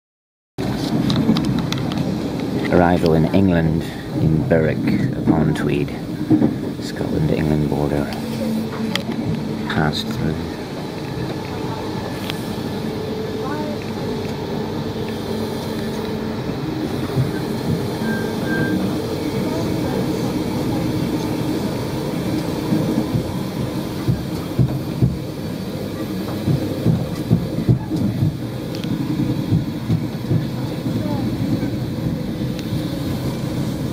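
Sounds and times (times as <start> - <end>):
train wheels rumbling on track: 0.6 - 33.9.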